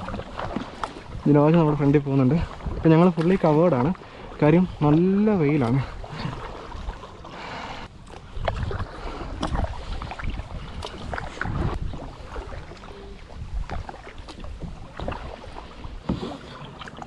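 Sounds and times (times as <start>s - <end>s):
kayak paddle strokes through water: 0.0s - 17.0s.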